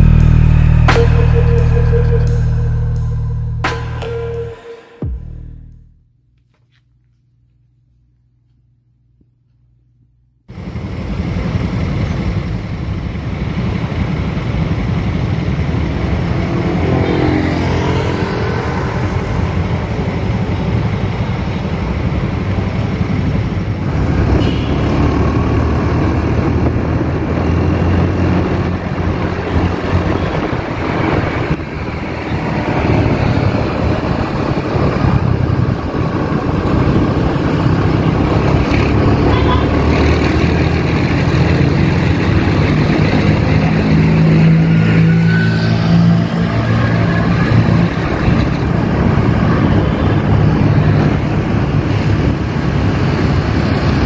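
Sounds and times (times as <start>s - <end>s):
engine revving: 0.0s - 5.9s, 14.1s - 54.0s
city street traffic rumble: 0.0s - 6.0s, 10.5s - 54.0s.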